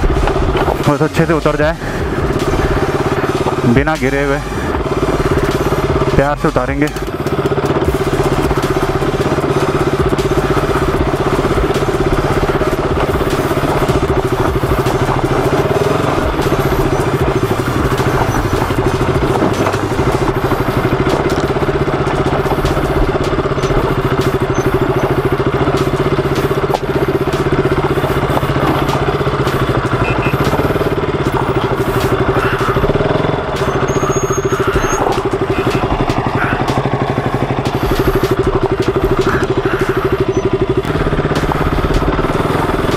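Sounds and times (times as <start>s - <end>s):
motorcycle engine running at low revs: 0.0s - 42.9s.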